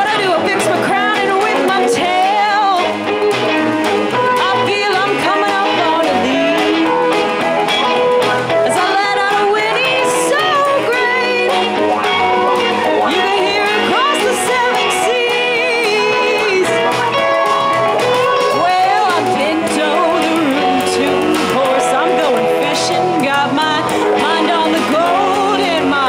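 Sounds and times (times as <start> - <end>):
electric bass: 0.0 - 26.0
guitar: 0.0 - 26.0
woman singing lead: 0.0 - 26.0.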